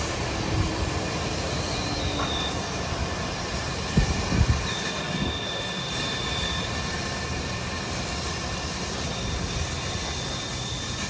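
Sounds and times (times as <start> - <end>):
construction machinery rumble: 0.0 - 11.0
high-pitched whine: 0.0 - 11.0.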